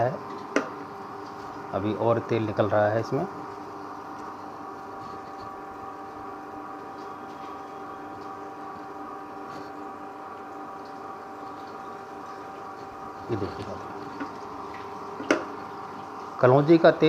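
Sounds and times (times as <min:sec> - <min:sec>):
oil expeller motor hum: 0:00.0 - 0:17.0.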